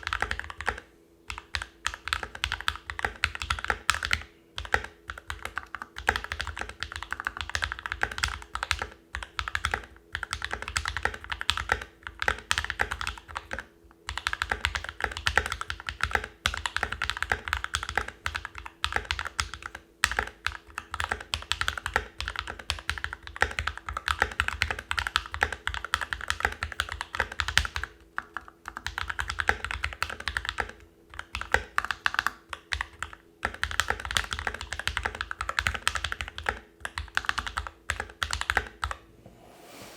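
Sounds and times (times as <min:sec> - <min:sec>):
mechanical keyboard typing: 0:00.0 - 0:39.0.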